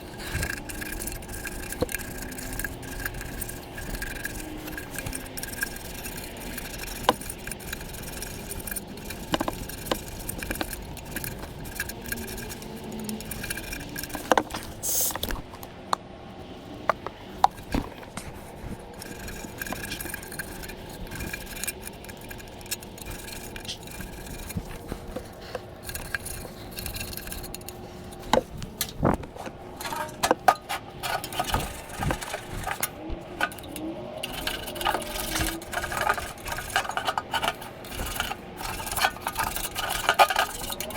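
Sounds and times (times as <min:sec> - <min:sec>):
sharp metal clicks and knocks: 0:00.0 - 0:16.1, 0:16.8 - 0:40.9
scraping and rubbing sheet metal: 0:00.0 - 0:40.9.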